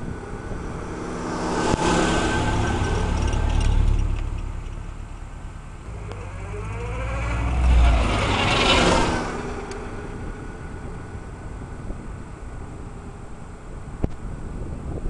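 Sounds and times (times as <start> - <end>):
car engine revving passing: 0.0 - 12.5.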